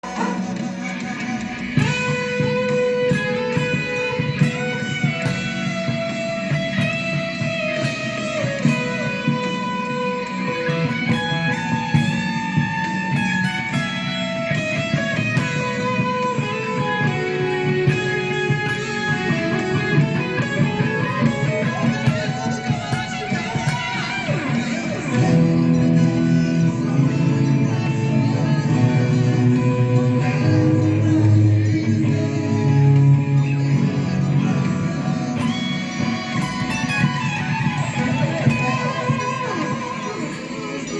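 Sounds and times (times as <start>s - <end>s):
guitar melody: 0.0s - 40.9s.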